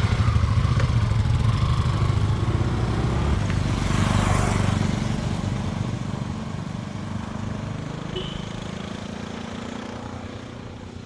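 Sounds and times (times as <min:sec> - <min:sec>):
motorcycle engine riding away: 0:00.0 - 0:10.7.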